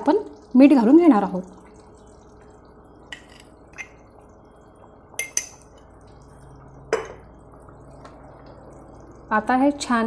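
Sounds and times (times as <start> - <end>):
gravy bubbling in a pan: 0.0 - 10.0.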